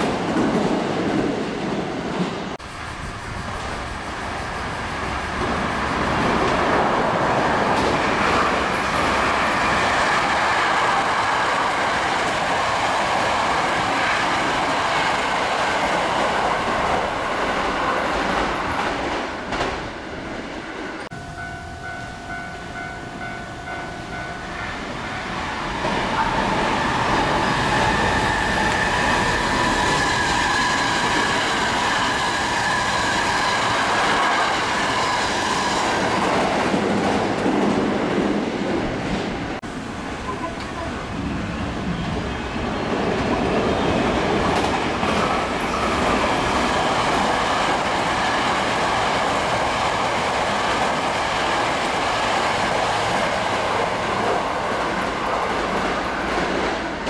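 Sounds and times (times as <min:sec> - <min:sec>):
train wheels clattering on rails: 0:00.0 - 0:20.0, 0:21.1 - 0:39.6, 0:41.9 - 0:57.0.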